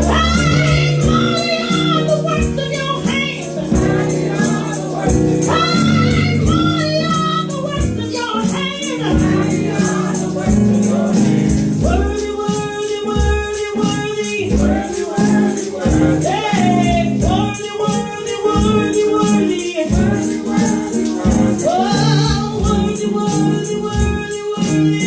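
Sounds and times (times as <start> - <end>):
tambourine shaken: 0.0 - 25.0
voices singing: 0.0 - 25.0.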